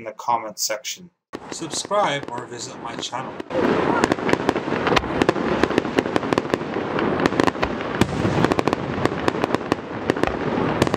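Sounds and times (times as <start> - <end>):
fireworks bangs and crackles: 1.4 - 10.9.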